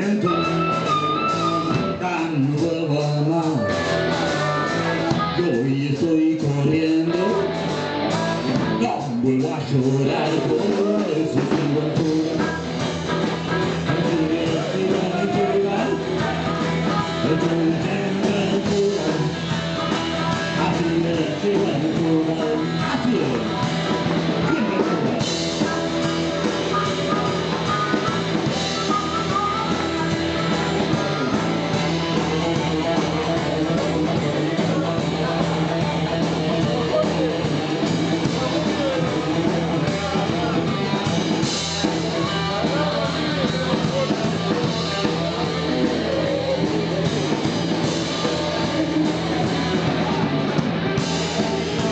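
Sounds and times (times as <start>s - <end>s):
electric guitar lead: 0.0s - 51.9s
rock and roll band playing: 0.0s - 51.9s
steady bass line: 0.0s - 51.9s.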